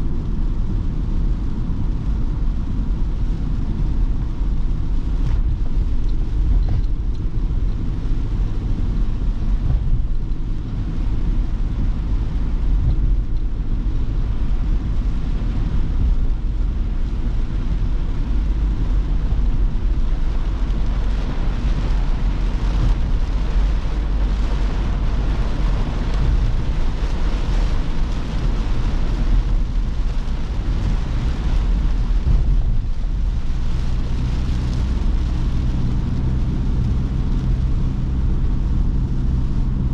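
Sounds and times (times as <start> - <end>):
engine and road rumble: 0.0 - 39.9
rain and wet tyres hissing: 0.0 - 39.9.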